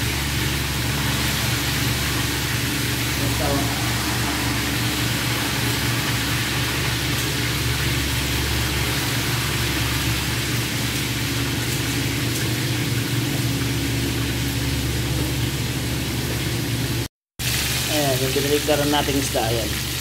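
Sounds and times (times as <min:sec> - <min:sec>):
fish sizzling in hot oil: 0:00.0 - 0:20.0
low mechanical hum: 0:00.0 - 0:20.0.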